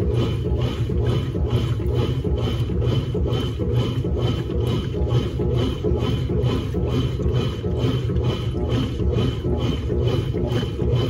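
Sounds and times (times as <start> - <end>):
washing machine churning: 0.0 - 11.0.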